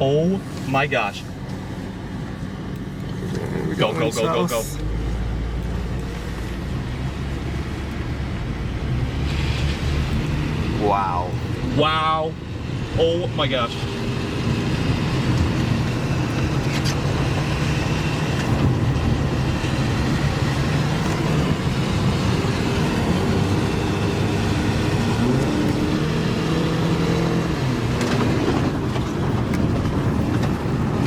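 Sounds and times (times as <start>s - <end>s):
car engine hum: 0.0s - 31.0s
road rumble: 0.0s - 31.0s.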